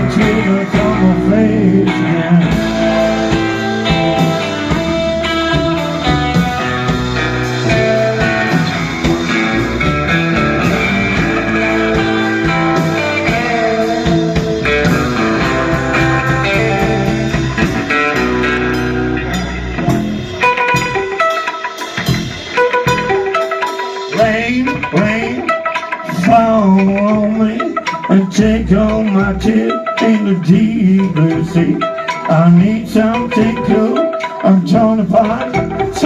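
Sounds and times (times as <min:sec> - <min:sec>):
bass guitar: 0:00.0 - 0:36.0
blues-rock band playing: 0:00.0 - 0:36.0
drums: 0:00.0 - 0:36.0
electric guitar solo: 0:00.0 - 0:36.0.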